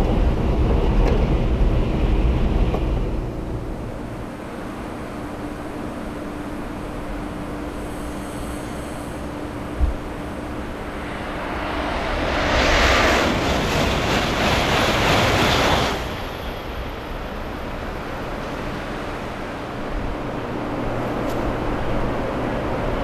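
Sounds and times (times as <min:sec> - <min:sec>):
train rushing past: 0:00.0 - 0:23.0.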